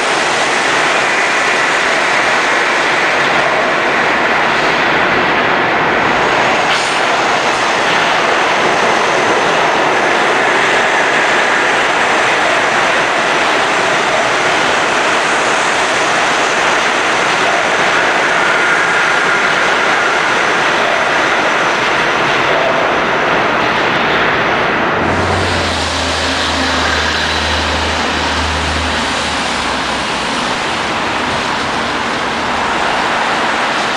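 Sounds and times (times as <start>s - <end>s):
subway train wheels on rail: 0.0s - 33.9s.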